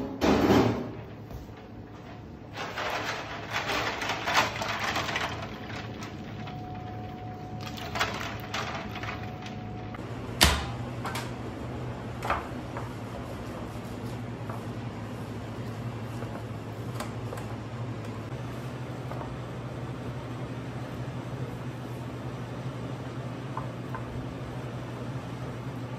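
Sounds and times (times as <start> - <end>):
kitchen fan hum: 0.0 - 25.9.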